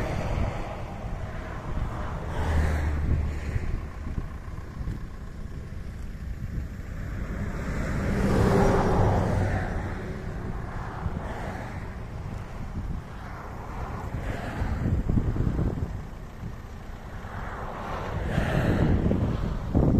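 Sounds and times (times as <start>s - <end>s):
wind on microphone: 0.0s - 5.6s, 6.3s - 19.9s
vehicle passing close by: 0.0s - 5.7s, 6.5s - 19.9s
vehicle engines in slow traffic: 0.0s - 19.9s.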